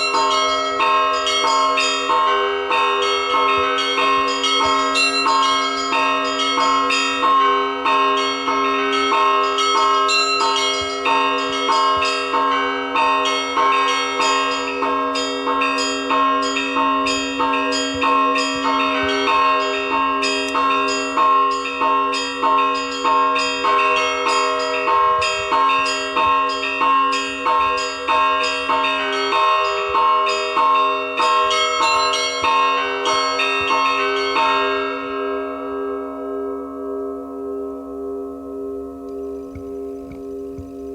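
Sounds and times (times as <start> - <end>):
large bell humming: 0.0 - 40.9.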